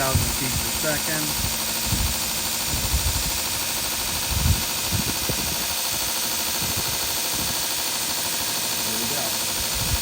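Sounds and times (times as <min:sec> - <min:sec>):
belt grinder running: 0:00.0 - 0:10.0.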